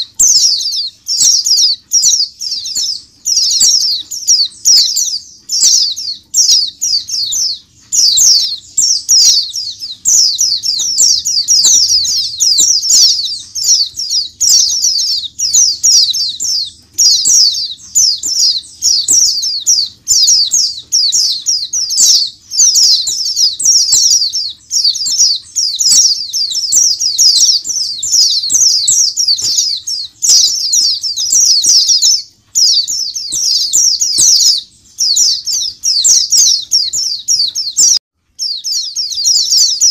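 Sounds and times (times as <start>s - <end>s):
birds chirping in chorus: 0.0s - 39.9s.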